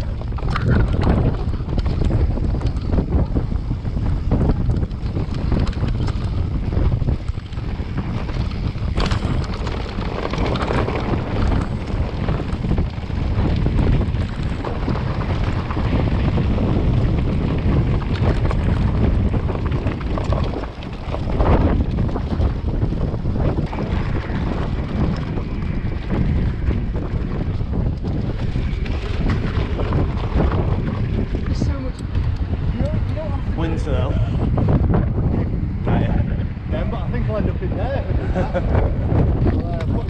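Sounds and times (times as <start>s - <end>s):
bike rumbling and rattling: 0.0s - 40.0s
wind buffeting microphone: 0.0s - 40.0s.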